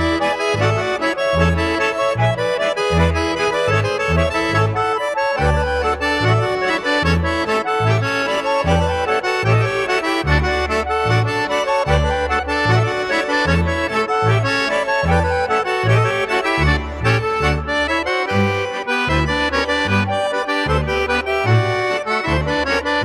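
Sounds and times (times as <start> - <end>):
accordion folk music: 0.0 - 23.0.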